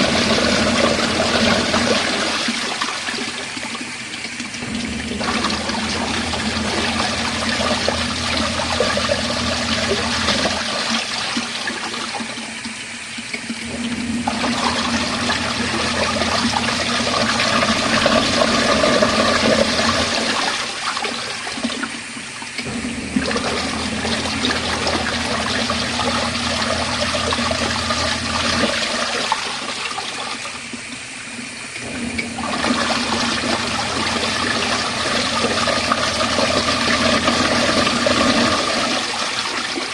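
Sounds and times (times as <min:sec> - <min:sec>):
washing machine motor running: 0:00.0 - 0:39.9
water swirling and sloshing: 0:00.0 - 0:39.9.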